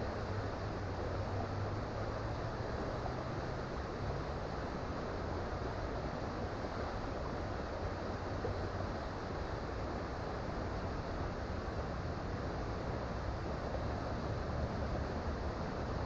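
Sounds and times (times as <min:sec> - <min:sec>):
creek flowing: 0:00.0 - 0:16.0.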